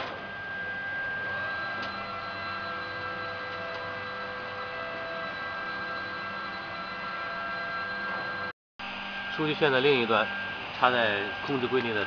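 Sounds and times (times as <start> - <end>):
machinery hum: 0.0 - 12.0
thin whining tones: 0.2 - 12.0.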